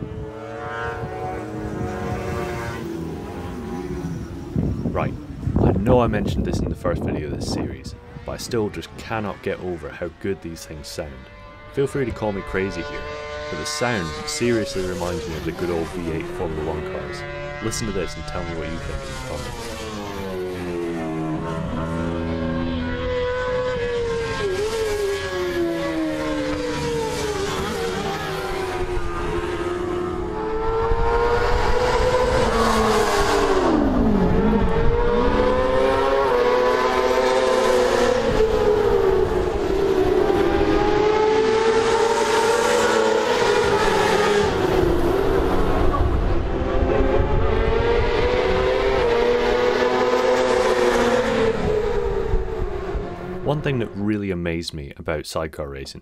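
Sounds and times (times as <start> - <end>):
engine passing by: 0.0 - 5.6, 7.8 - 54.0
racing engines at high revs: 0.0 - 54.1.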